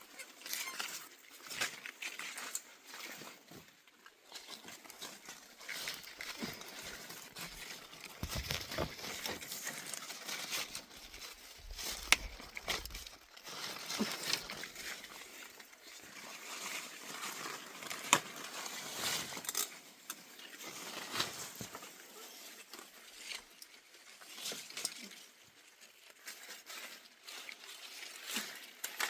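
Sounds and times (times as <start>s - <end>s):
leaves and twigs rustling: 0.0s - 29.0s.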